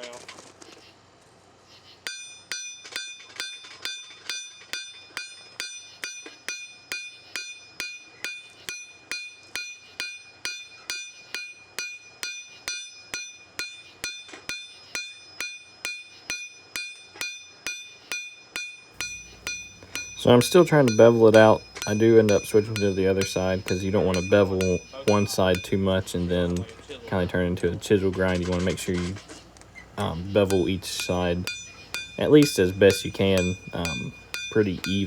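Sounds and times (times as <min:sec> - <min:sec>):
hammer striking blade on anvil: 0:02.1 - 0:35.0.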